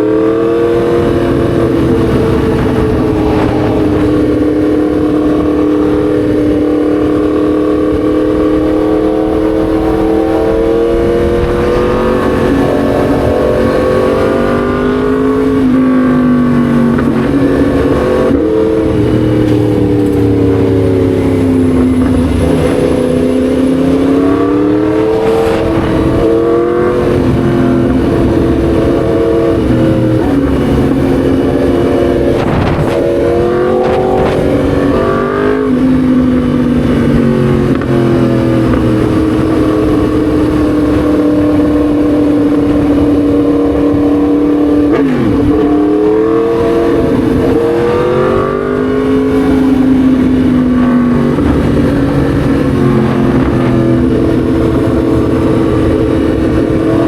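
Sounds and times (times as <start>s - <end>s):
motorcycle engine revving: 0.0s - 57.0s
steady rushing noise: 0.0s - 57.0s.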